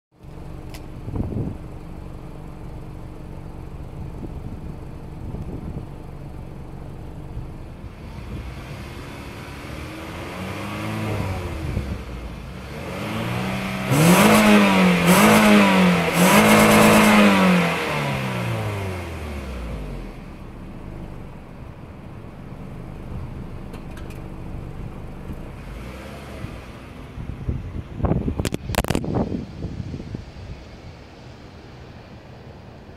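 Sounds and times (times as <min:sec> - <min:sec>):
car engine idling and revving: 0:00.1 - 0:32.9.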